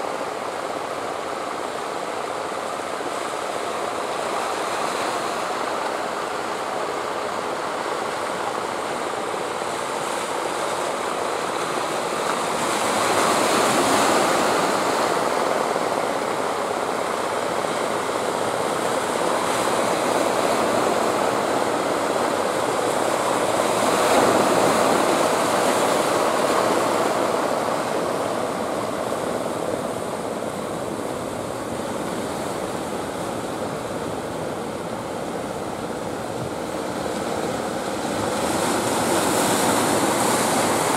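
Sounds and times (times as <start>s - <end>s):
sea surf breaking on rocks: 2.3s - 40.9s.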